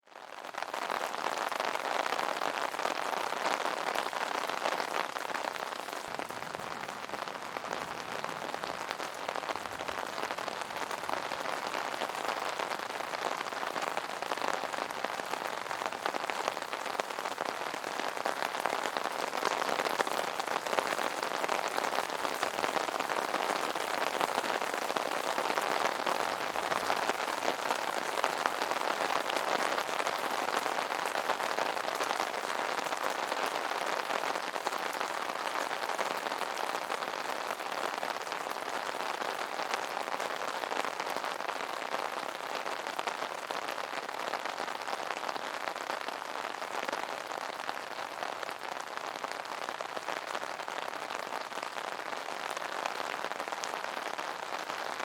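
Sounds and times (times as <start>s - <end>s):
rain pattering on an umbrella: 0.0s - 55.0s.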